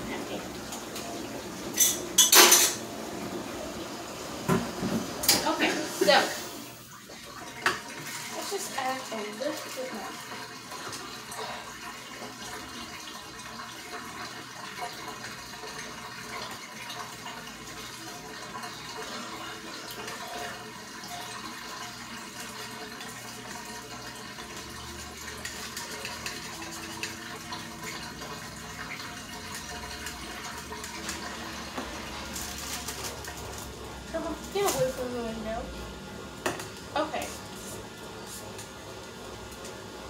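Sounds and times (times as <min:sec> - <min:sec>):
running water hissing: 0:00.0 - 0:40.0.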